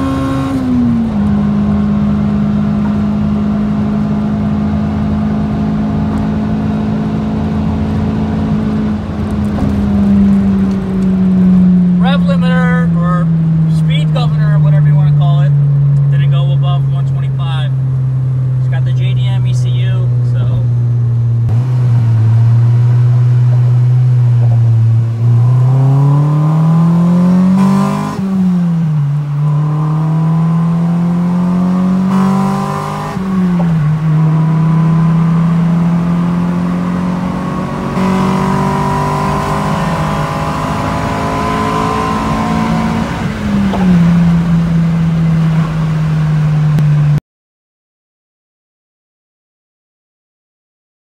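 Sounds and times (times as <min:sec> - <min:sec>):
car engine accelerating: 0:00.0 - 0:47.2.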